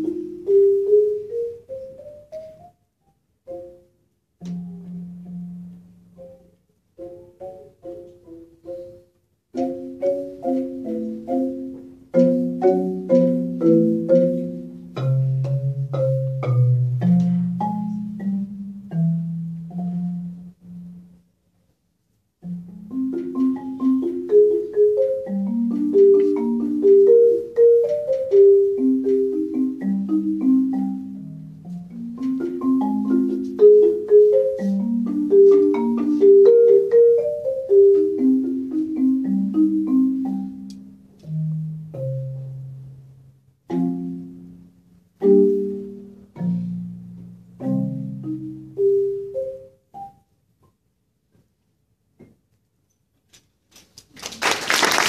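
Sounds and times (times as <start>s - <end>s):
solo marimba playing: 0.0s - 2.8s, 3.4s - 21.2s, 22.4s - 50.4s.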